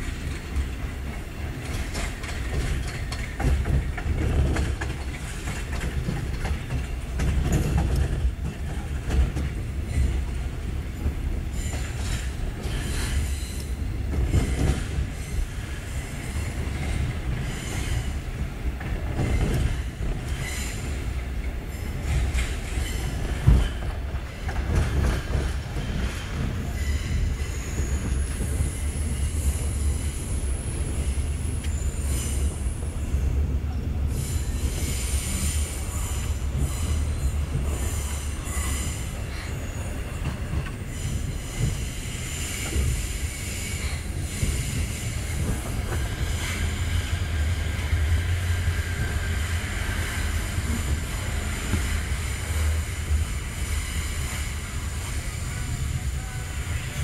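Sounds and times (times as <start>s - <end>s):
train running gear rumble: 0.0s - 57.0s.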